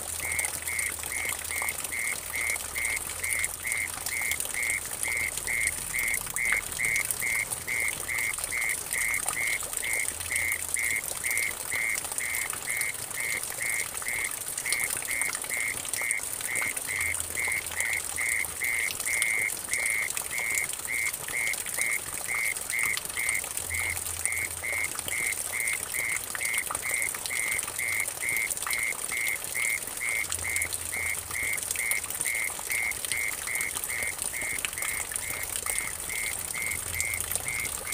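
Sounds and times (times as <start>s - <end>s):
water trickling into puddle: 0.0s - 37.9s.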